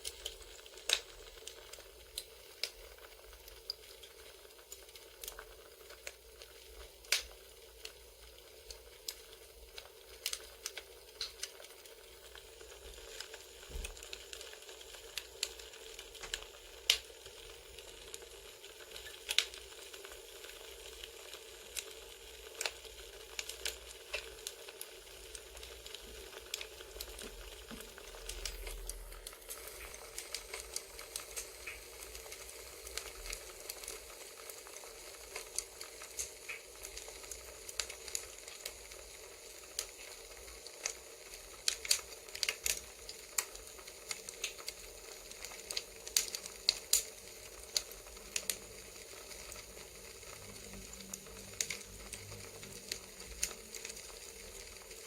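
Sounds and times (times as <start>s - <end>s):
low steady fire hiss: 0.0s - 55.0s
sharp fire pops and snaps: 0.0s - 55.0s
wood fire crackling: 0.0s - 55.0s.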